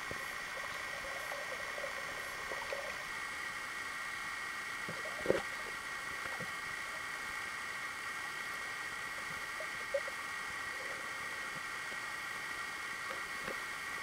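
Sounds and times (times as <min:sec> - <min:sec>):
faint high hum: 0:00.0 - 0:14.0
underwater hiss: 0:00.0 - 0:14.0.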